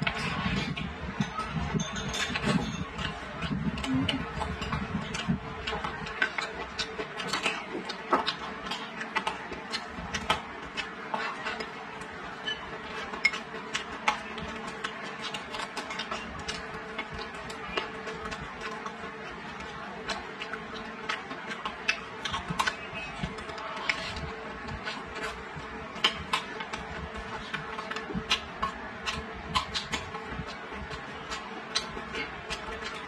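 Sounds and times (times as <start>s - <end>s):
chewing food: 0.0s - 33.0s.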